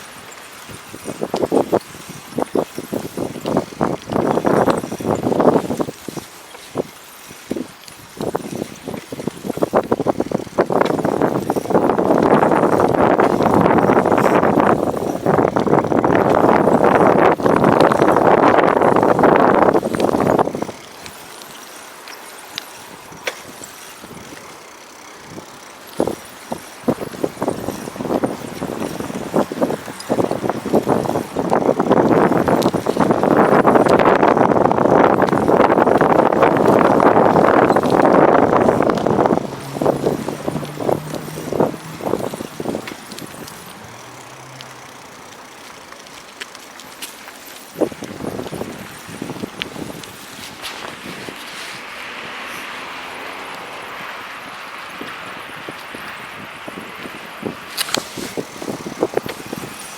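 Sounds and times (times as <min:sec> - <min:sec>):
light clicks and rattles: 0:00.0 - 0:51.5
low steady wind hiss: 0:00.0 - 0:59.9
wind buffeting microphone: 0:00.0 - 0:59.9.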